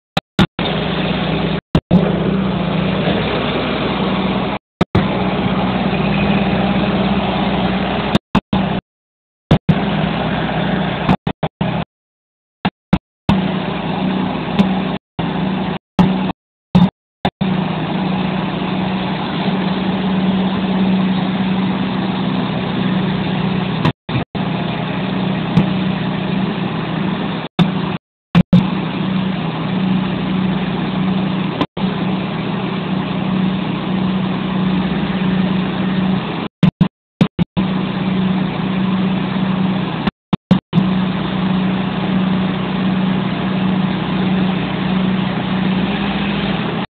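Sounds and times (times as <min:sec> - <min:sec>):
diesel engine running: 0:00.4 - 0:08.8, 0:09.5 - 0:11.9, 0:12.6 - 0:46.9.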